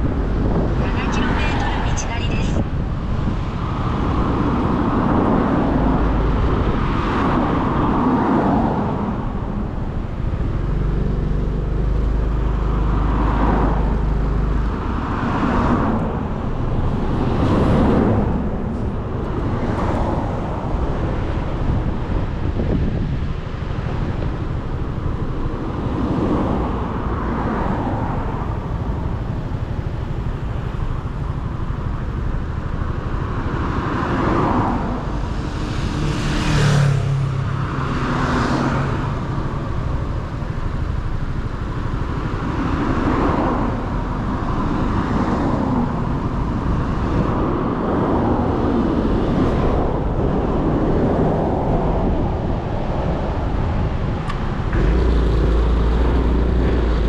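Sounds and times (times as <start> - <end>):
vehicles passing: 0.0 - 57.0
motorcycle engine: 3.0 - 57.0
steady low hum: 8.9 - 57.0.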